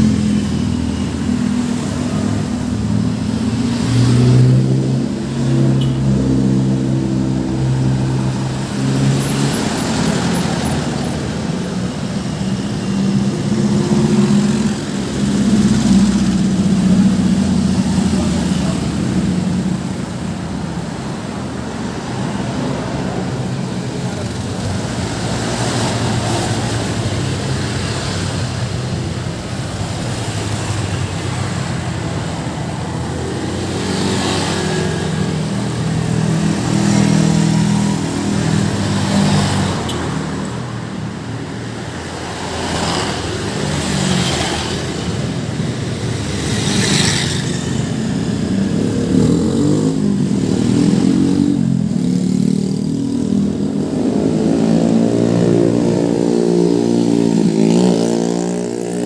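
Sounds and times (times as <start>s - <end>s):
cars driving past: 0.0s - 59.0s.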